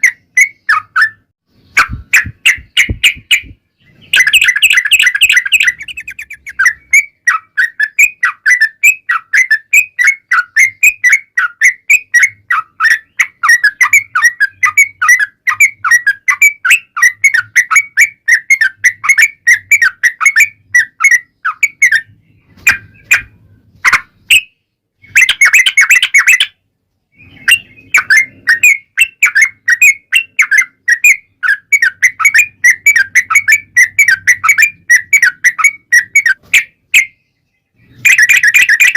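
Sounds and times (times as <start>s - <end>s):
bulbul chirping song: 0.0s - 38.9s.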